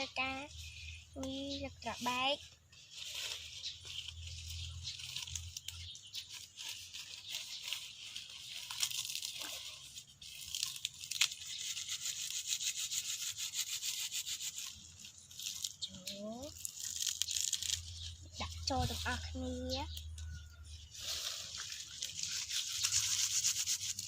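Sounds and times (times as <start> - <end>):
rapid crackling scratching: 1.6 - 19.3, 20.9 - 24.0.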